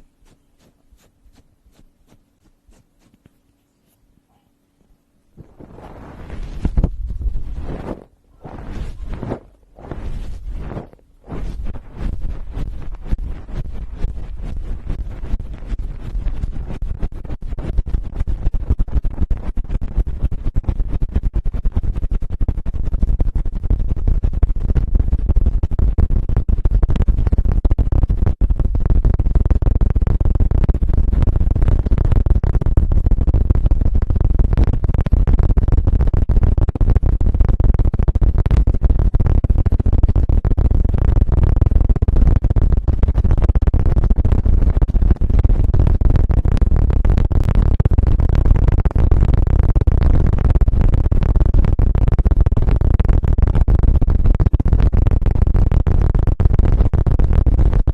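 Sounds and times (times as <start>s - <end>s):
scratching on microphone: 0.0s - 4.5s, 5.3s - 57.9s
heavy rumble: 5.3s - 57.9s.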